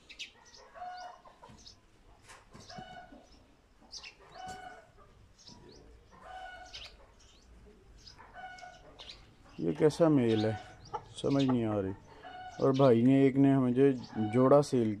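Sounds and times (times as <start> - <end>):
chickens clucking softly: 0.0 - 14.9.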